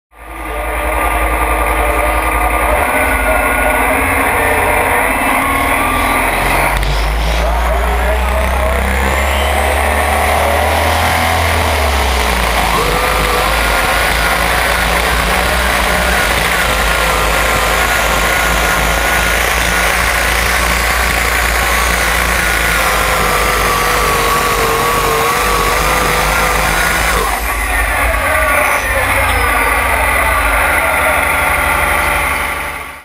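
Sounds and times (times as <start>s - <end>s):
high turbo whine: 0.1s - 33.0s
tractor diesel engine under load: 0.1s - 33.0s.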